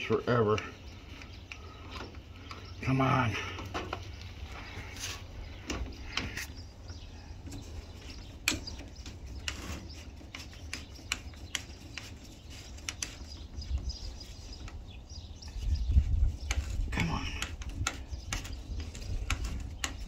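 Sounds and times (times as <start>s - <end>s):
connector clicking and scraping: 3.5s - 20.0s.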